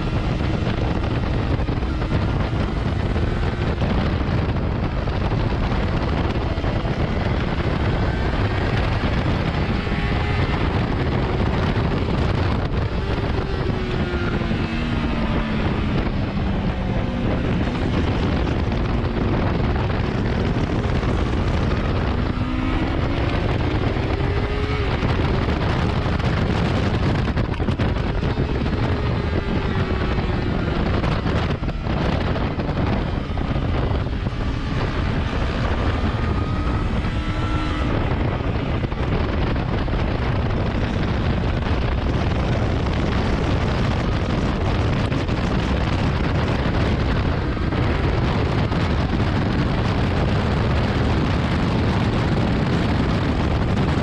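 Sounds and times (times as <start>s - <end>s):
sport bike engine: 0.0s - 54.0s
wind rush on microphone: 0.0s - 54.0s.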